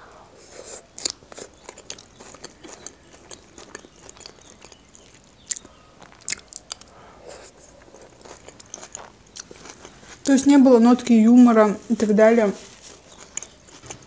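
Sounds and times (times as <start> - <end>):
chewing and crunching salad: 0.4 - 14.0.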